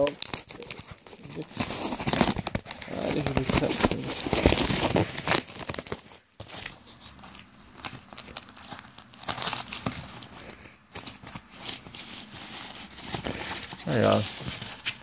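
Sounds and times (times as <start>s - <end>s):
cardboard tearing: 0.0s - 15.0s
cardboard flaps rustling: 0.2s - 15.0s.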